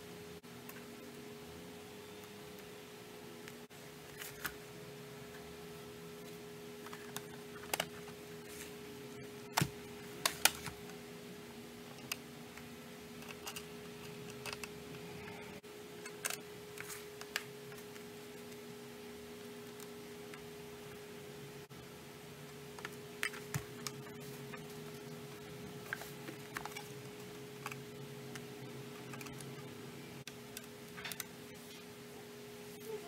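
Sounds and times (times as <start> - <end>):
steady faint hum: 0.0 - 33.0.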